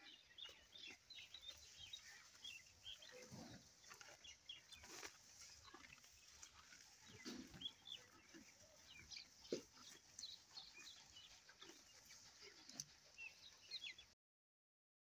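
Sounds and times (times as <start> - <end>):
birds chirping: 0.0 - 14.1
cattle chewing grass: 0.0 - 14.1.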